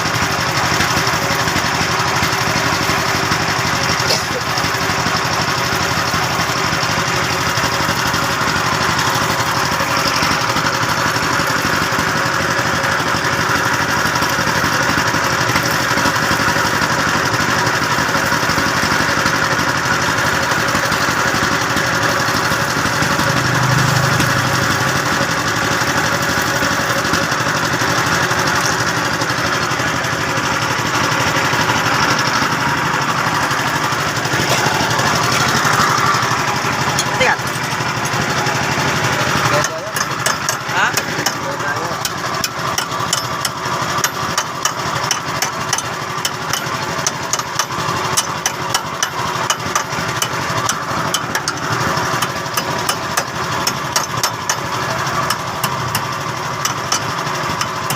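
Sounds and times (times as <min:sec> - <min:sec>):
engine idling with rattle: 0:00.0 - 0:57.9.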